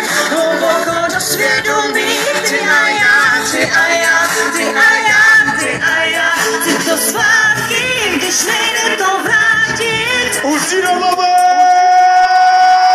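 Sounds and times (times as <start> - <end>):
woman singing: 0.0 - 10.7
pop song over loudspeakers: 0.0 - 12.9.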